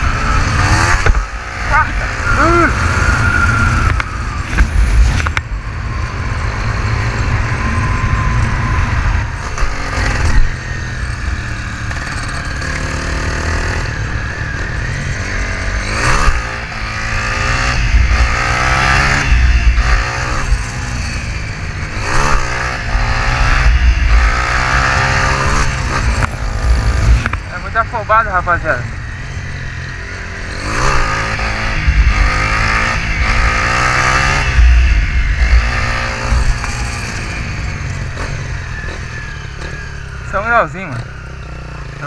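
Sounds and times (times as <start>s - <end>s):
wind rushing over microphone: 0.0s - 12.1s, 13.4s - 28.1s, 28.7s - 39.4s
motorcycle engine running: 0.0s - 42.0s.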